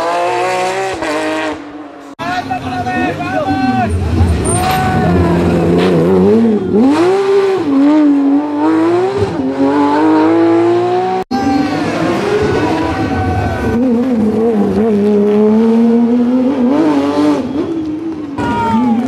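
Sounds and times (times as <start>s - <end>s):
race car engine revving: 0.0s - 1.9s, 3.9s - 18.4s.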